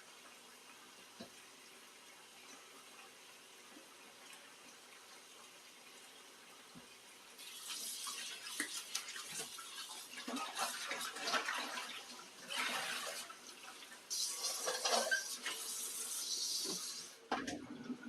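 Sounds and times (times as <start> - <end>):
tap water running into a sink: 0.0 - 18.0.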